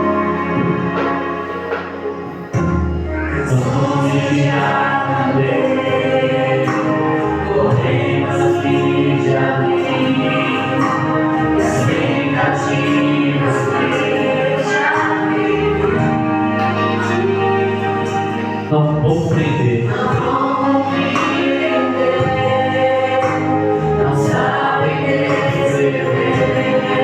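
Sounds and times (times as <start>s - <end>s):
choir singing worship music: 0.0s - 27.0s
instrumental backing: 0.0s - 27.0s.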